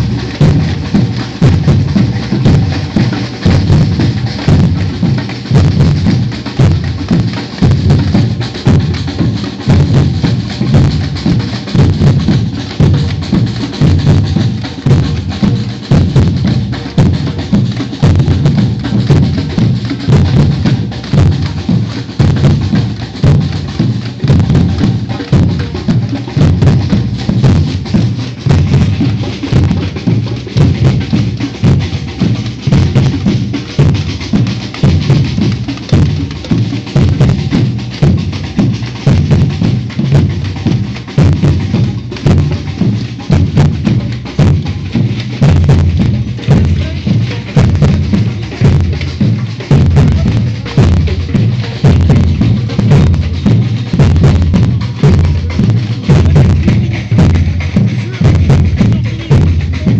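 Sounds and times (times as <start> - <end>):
bass drums: 0.0 - 59.9
snare drums beating: 0.0 - 59.9.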